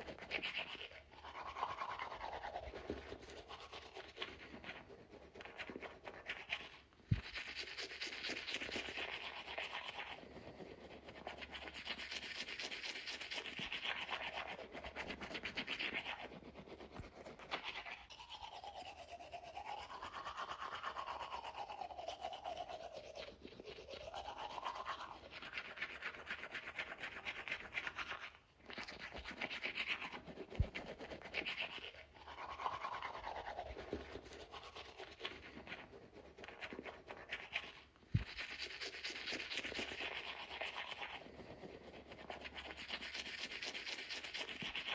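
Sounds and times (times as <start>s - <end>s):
toothbrush scrubbing teeth: 0.0s - 44.9s.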